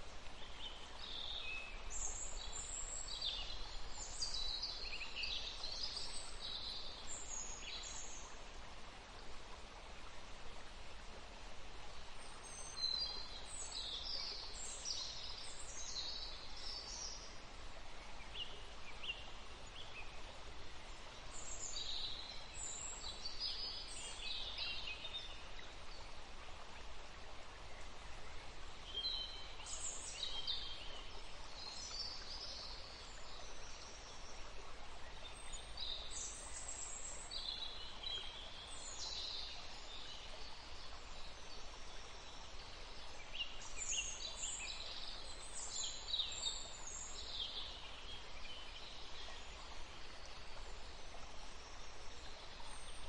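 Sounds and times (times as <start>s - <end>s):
steady background hiss: 0.0s - 53.0s.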